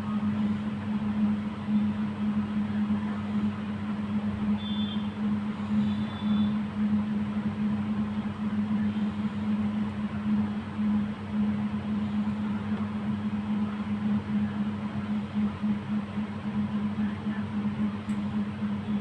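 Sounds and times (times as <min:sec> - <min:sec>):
cooling fan humming and whooshing: 0:00.0 - 0:19.0.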